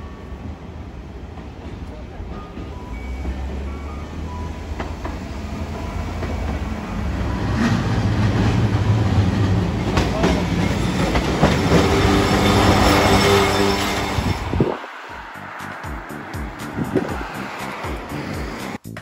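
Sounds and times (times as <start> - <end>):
streetcar rumbling on tracks: 0.0 - 19.0.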